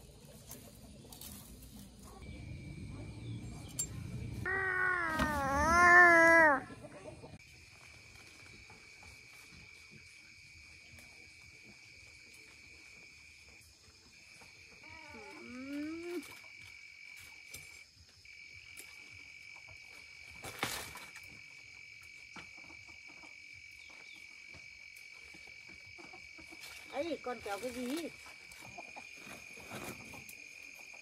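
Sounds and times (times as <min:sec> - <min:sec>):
insects trilling: 0:01.9 - 0:11.3, 0:11.9 - 0:31.0.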